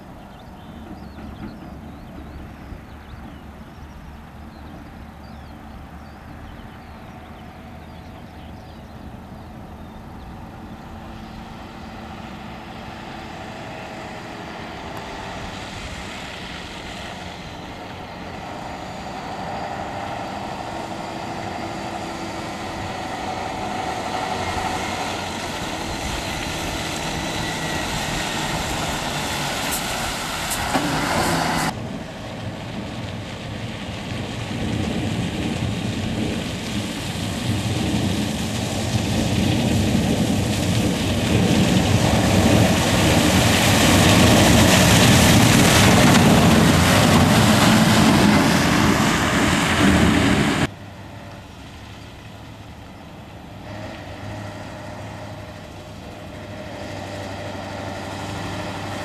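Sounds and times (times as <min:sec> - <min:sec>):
diesel truck engines: 0:00.0 - 0:59.0
truck driving past: 0:00.0 - 0:59.0.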